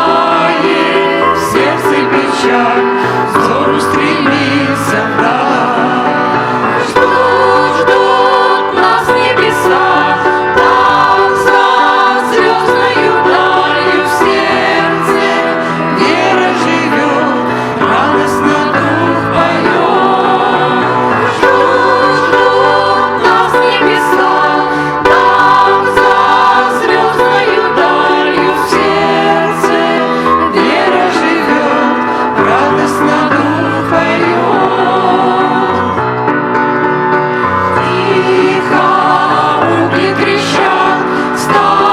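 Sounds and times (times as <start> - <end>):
instrumental accompaniment: 0.0 - 41.9
voices singing a hymn: 0.0 - 41.9.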